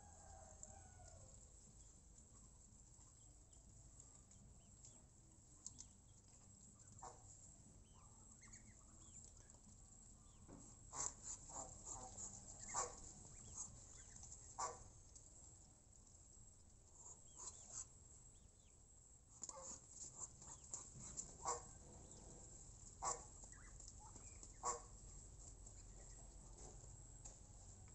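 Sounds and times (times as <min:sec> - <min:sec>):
poultry peeping: 0:00.1 - 0:15.7, 0:16.8 - 0:18.8, 0:19.4 - 0:27.9.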